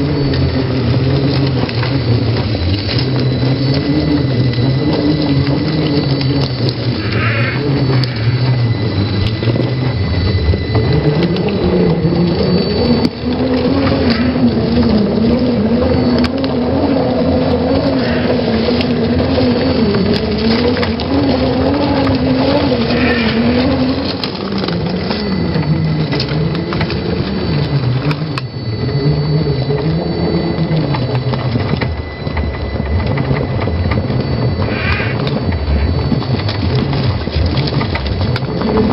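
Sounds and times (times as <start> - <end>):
electric motor whirring: 0.0 - 38.9
thin high whine: 0.0 - 38.9.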